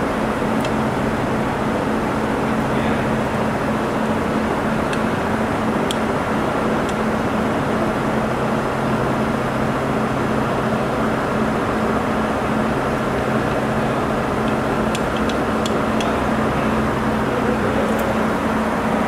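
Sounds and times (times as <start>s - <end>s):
lathe motor hum: 0.0s - 19.0s.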